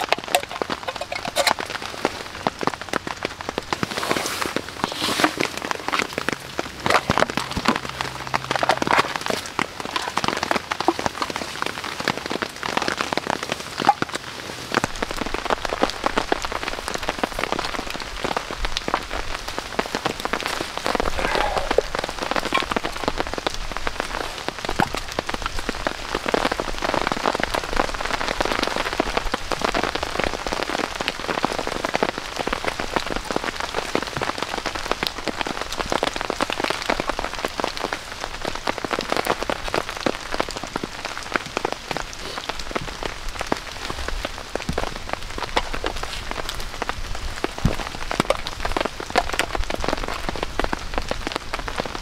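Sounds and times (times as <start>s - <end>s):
rain pattering on a tarp: 0.0s - 52.0s.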